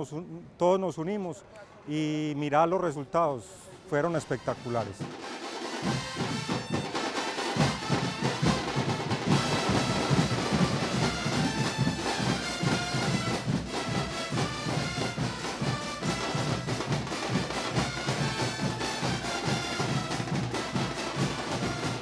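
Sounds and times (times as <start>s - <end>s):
wind band playing: 4.0s - 22.0s.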